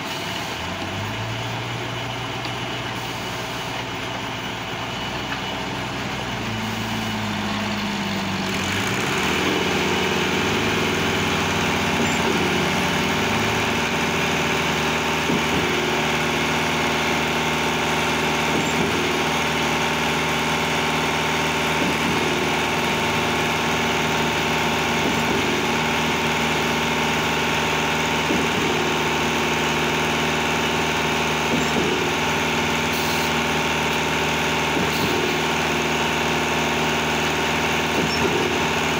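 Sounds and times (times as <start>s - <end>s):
concrete pump machinery drone: 0.0s - 38.9s.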